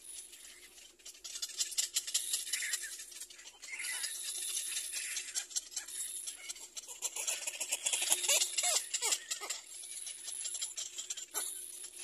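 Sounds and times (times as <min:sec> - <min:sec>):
chicks begging raspy chatter: 0:01.1 - 0:12.0.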